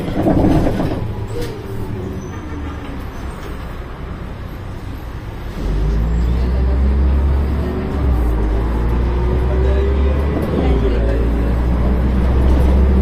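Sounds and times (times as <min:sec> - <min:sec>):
bus diesel engine rumble: 0:00.0 - 0:13.0
road noise: 0:00.0 - 0:13.0.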